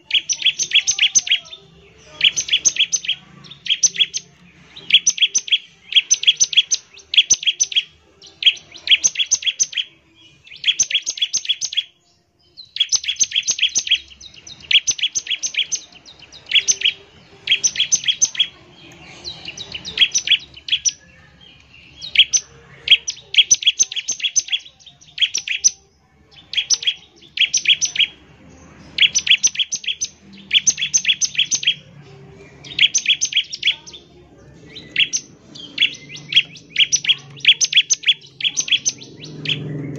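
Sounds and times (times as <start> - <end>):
bird singing sharp high notes: 0.0 - 39.9.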